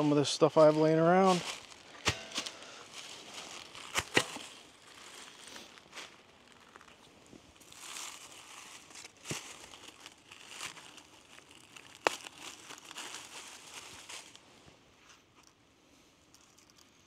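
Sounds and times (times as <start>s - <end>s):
dry material rustling and crunching: 0.0s - 15.5s.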